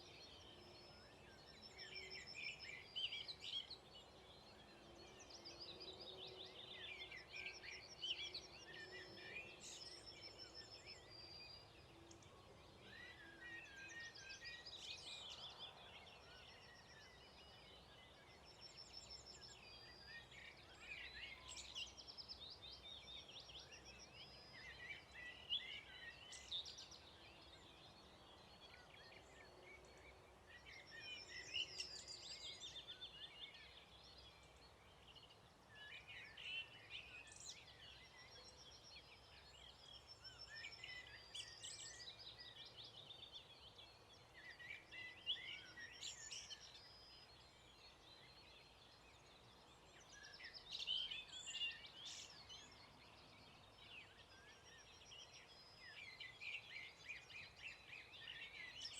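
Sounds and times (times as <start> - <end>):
songbirds singing faintly: 0.0 - 58.9.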